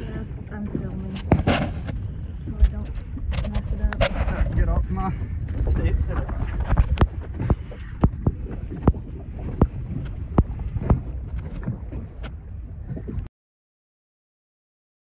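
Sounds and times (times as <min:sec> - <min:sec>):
boat low rumble: 0:00.0 - 0:13.3
wind buffeting microphone: 0:00.0 - 0:13.3.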